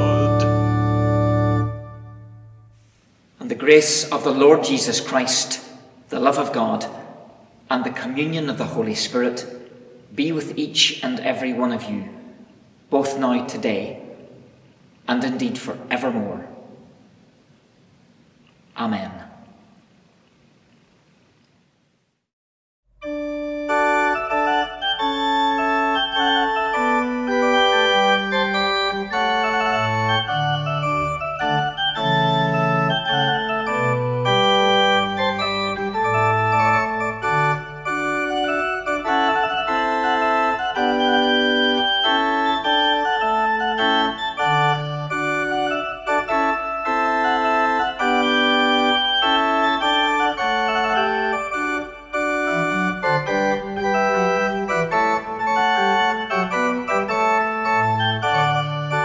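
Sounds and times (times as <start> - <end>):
chamber organ playing chords: 0.0 - 17.2, 23.0 - 59.0.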